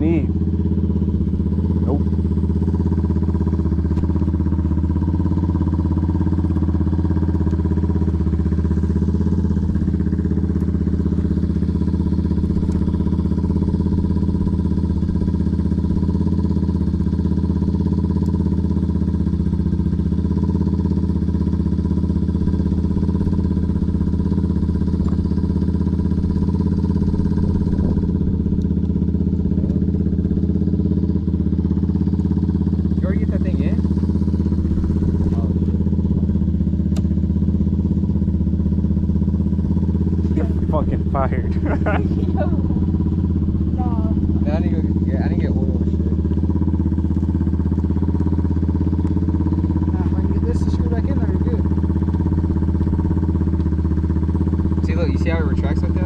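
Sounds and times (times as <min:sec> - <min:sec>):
dirt bike engine idling: 0:00.0 - 0:56.0.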